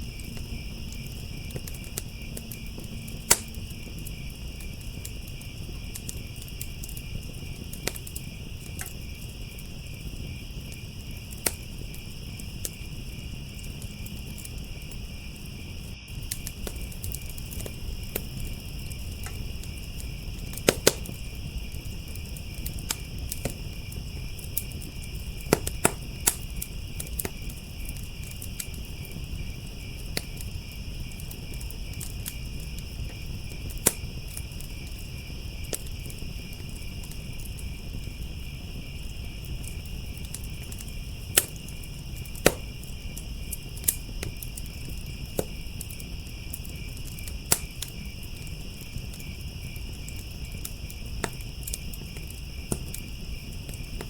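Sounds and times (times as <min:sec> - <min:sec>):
crickets chirping: 0:00.0 - 0:54.0
wood fire crackling: 0:00.0 - 0:54.0.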